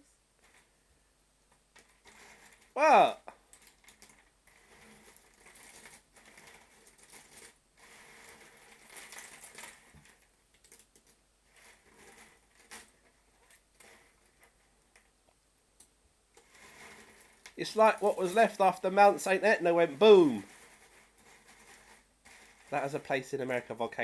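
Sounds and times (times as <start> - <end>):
puzzle pieces rustling and clicking: 1.8 - 15.1, 16.4 - 23.9.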